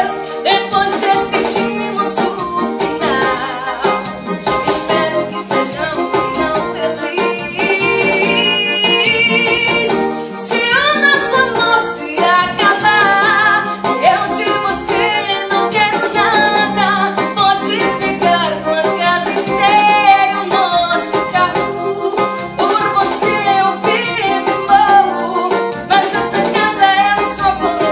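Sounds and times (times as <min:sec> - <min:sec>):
electronic keyboard playing: 0:00.0 - 0:27.9
woman singing: 0:00.0 - 0:27.9.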